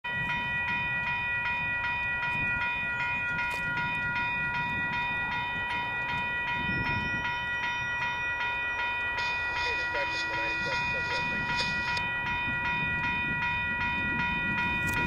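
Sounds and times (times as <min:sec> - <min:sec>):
level crossing bell ringing: 0:00.1 - 0:15.0.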